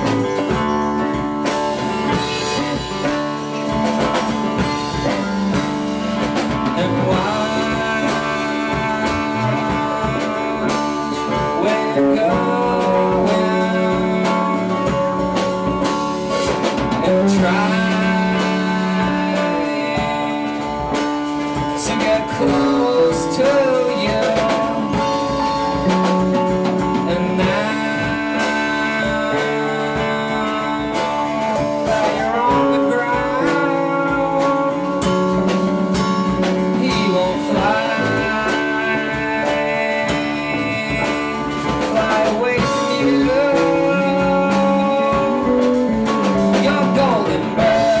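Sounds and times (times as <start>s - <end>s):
live band playing: 0.0s - 48.0s.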